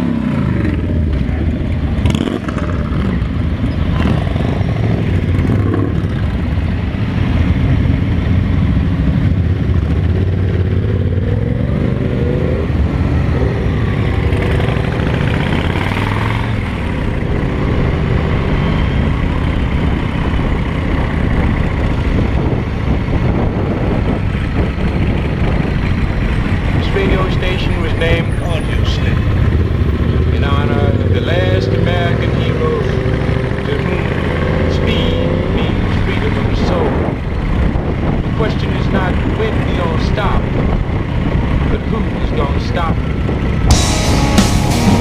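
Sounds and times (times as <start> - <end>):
motorcycle engine rumbling: 0.0 - 45.0.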